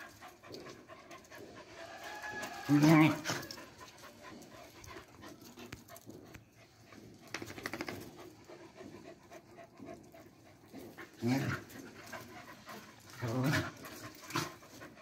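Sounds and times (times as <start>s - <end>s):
small dogs panting: 0.0s - 15.0s.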